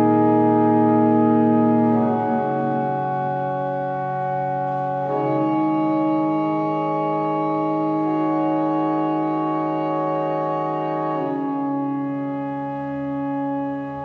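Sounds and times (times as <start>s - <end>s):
sustained organ-like chords: 0.0s - 14.0s.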